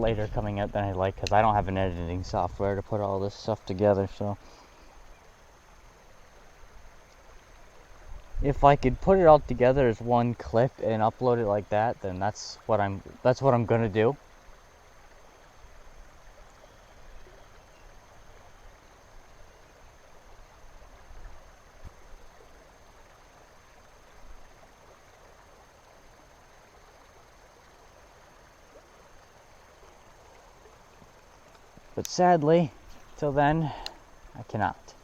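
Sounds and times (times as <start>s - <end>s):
flowing river water: 0.0s - 35.0s.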